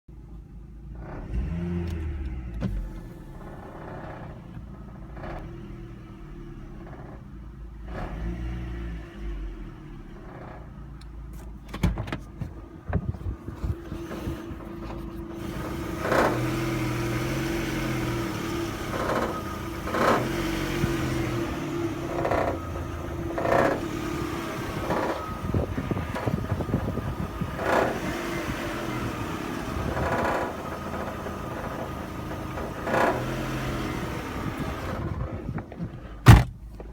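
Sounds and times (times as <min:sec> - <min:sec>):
car engine running: 0:00.1 - 0:36.9
sharp engine rattles: 0:00.9 - 0:08.2, 0:13.4 - 0:36.9.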